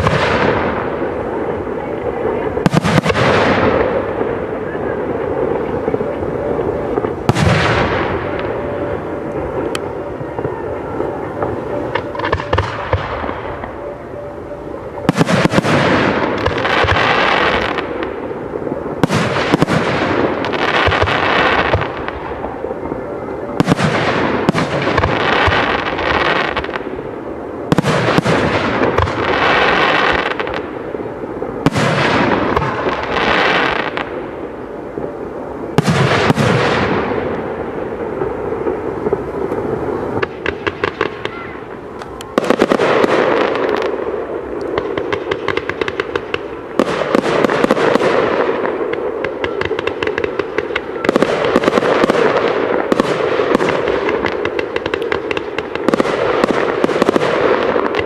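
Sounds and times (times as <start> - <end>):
firework crackling: 0.0 - 58.0.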